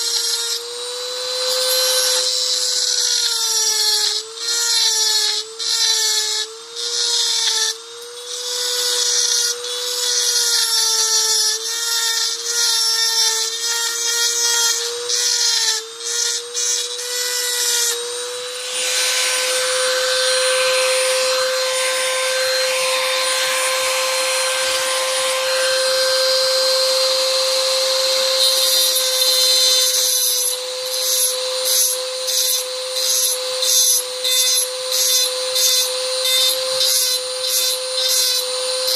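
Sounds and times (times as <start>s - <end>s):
rotary tool motor whine: 0.0s - 38.9s.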